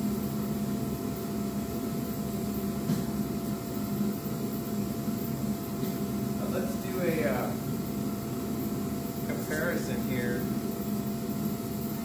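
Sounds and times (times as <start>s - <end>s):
heater droning: 0.0s - 12.0s.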